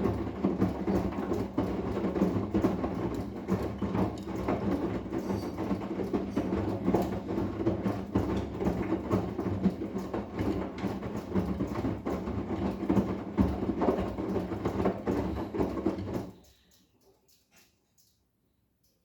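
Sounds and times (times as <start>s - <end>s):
washing machine drum turning: 0.0s - 16.4s.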